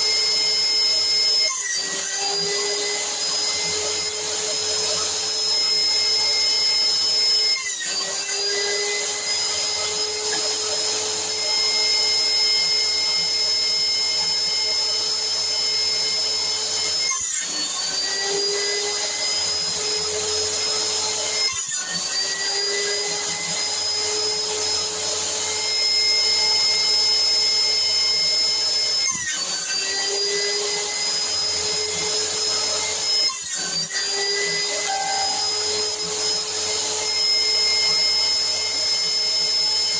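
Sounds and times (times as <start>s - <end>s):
power saw motor whine: 0.0s - 39.9s.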